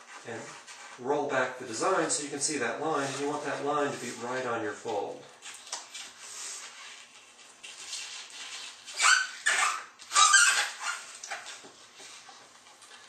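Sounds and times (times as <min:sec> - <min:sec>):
photo paper squeaky rubs: 0:00.0 - 0:13.0.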